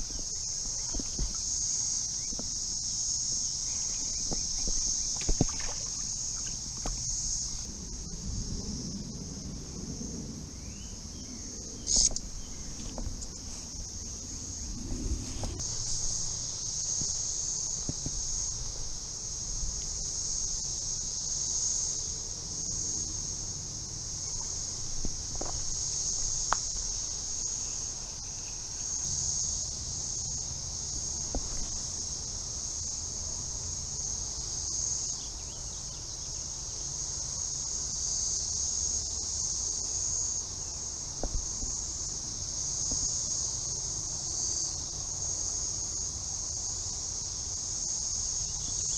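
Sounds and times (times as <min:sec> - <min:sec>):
cicadas buzzing: 0:00.0 - 0:48.9.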